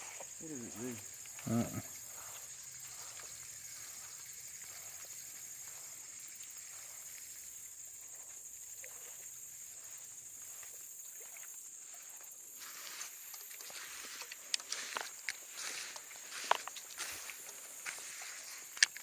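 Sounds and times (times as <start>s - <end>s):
steady high-pitched hiss: 0.0s - 19.0s
water sloshing from wading: 0.0s - 19.0s.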